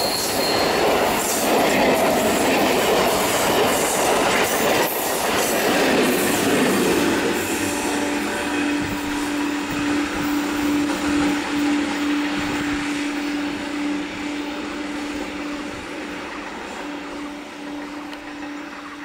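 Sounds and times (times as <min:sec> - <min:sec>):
train hum: 0:00.0 - 0:19.0
wheel and rail noise: 0:00.0 - 0:19.0.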